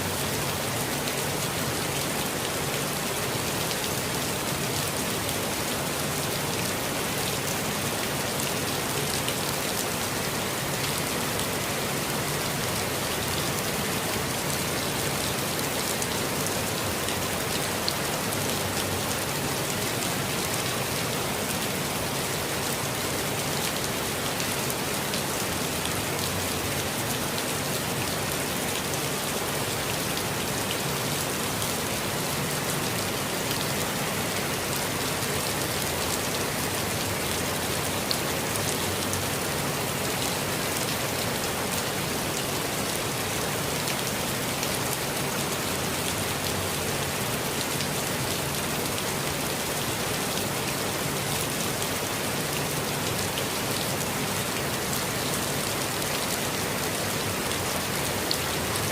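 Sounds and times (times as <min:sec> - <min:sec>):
steady rainfall patter: 0:00.0 - 0:58.9.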